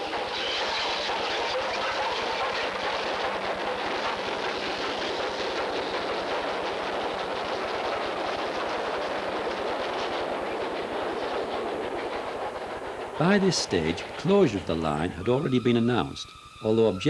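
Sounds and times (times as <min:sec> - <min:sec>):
steam locomotive exhaust beats: 0:00.0 - 0:17.0
train coaches rolling: 0:00.0 - 0:17.0.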